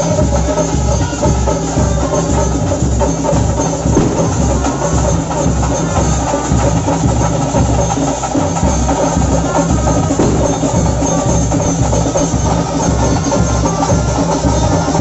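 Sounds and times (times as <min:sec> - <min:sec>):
drums beating a driving rhythm: 0:00.0 - 0:15.0
other instruments playing: 0:00.0 - 0:15.0.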